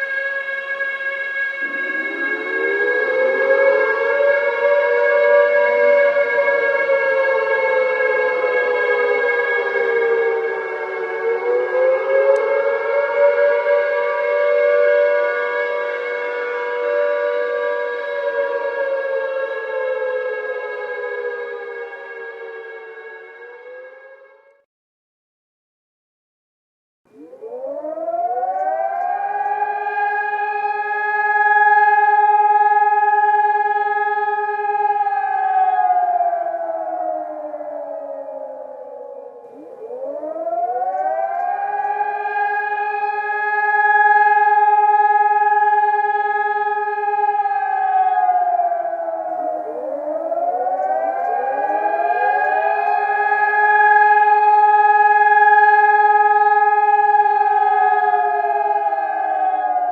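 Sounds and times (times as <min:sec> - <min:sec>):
warning siren wailing: 0:00.0 - 0:24.6, 0:27.1 - 0:59.9.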